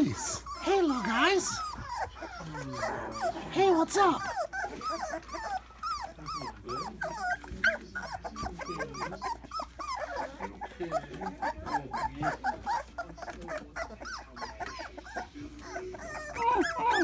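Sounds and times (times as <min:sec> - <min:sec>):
puppies whining and whimpering: 0:00.0 - 0:17.0.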